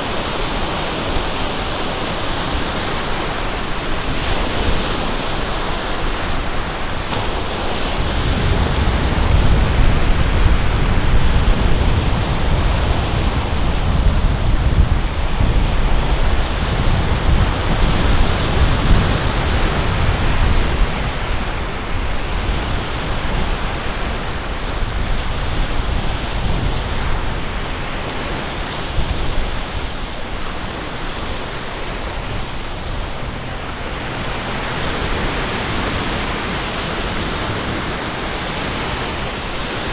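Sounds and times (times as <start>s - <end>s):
choppy lake waves: 0.0s - 39.9s
wind buffeting microphone: 0.0s - 39.9s.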